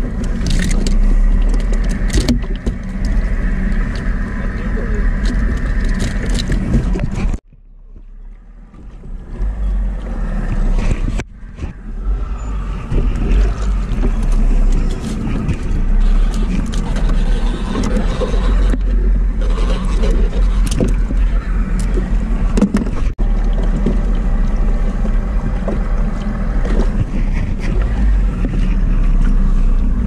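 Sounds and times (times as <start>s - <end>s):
boat motor rumbling: 0.0s - 30.0s.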